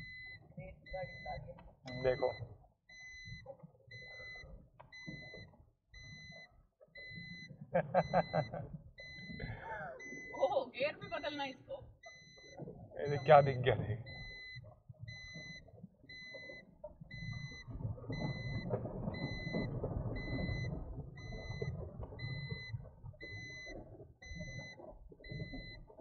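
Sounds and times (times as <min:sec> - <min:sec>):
dashboard warning beep: 0:00.0 - 0:26.0.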